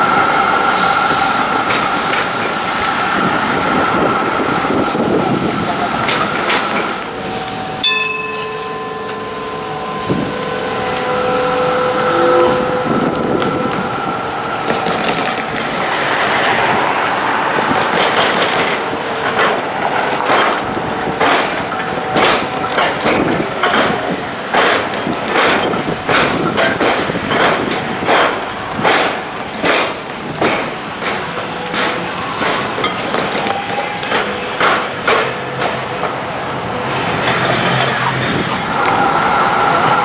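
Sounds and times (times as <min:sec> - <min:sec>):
train wheels clacking: 0:00.0 - 0:40.0.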